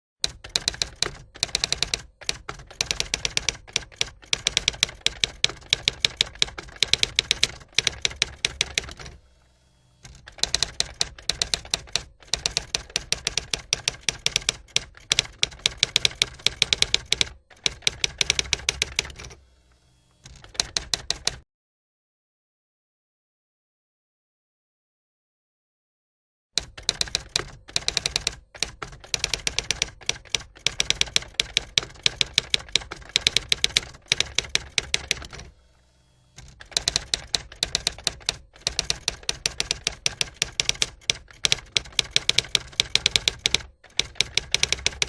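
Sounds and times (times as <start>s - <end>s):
typewriter keys clacking: 0.2s - 9.1s, 10.1s - 19.2s, 20.3s - 21.4s, 26.6s - 35.5s, 36.4s - 45.0s.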